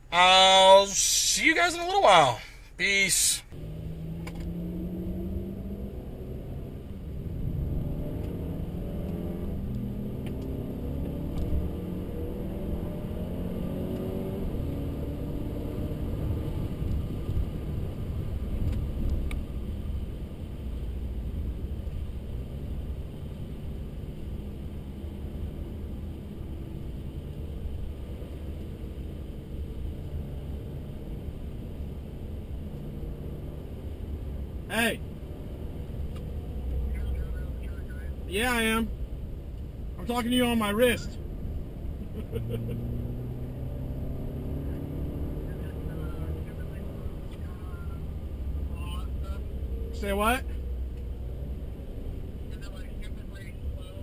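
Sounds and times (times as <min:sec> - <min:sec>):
car engine accelerating: 0:03.5 - 0:54.0.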